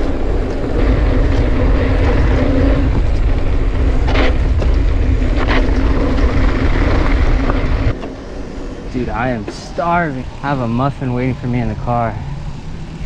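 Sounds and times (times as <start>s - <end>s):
tyres rolling on dirt trail: 0.0s - 13.0s
wind buffeting microphone: 0.0s - 13.0s.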